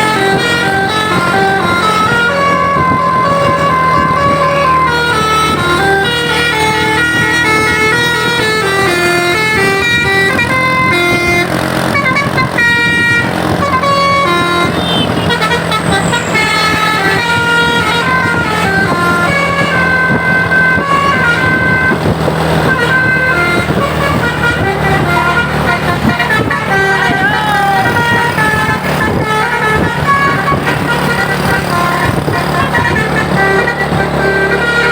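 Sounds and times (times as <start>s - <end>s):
bus horn playing a tune: 0.0s - 34.9s
steady low drone: 0.0s - 34.9s.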